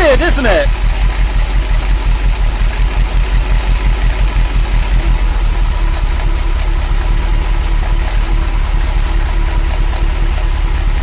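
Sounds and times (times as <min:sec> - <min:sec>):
car engine idling unevenly: 0:00.0 - 0:11.0.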